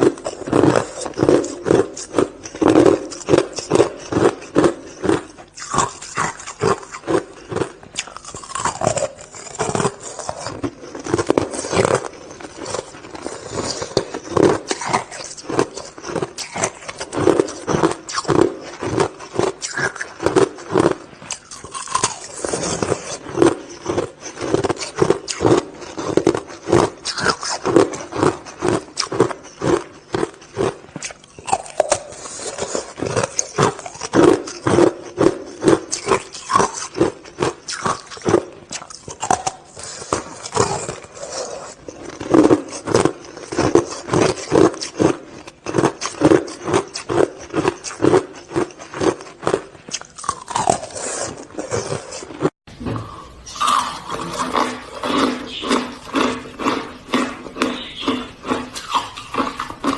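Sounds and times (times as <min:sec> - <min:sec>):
ice being crunched and chewed: 0:00.0 - 0:59.9.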